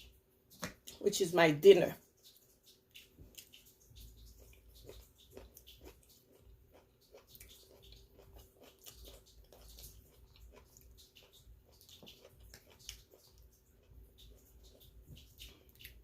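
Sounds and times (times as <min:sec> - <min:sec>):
mouth chewing with wet smacks: 0:00.0 - 0:01.0, 0:01.6 - 0:16.0.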